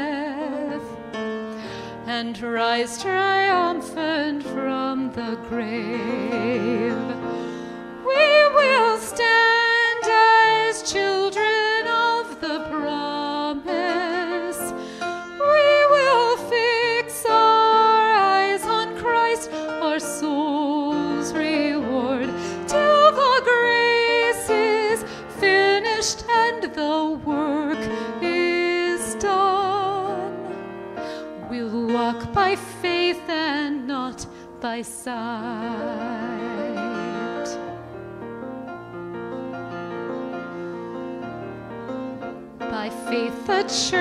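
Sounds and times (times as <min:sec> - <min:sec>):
woman singing a hymn: 0:00.0 - 0:01.0, 0:02.0 - 0:07.4, 0:08.0 - 0:30.6, 0:31.3 - 0:37.6, 0:42.6 - 0:44.0
grand piano: 0:00.0 - 0:44.0.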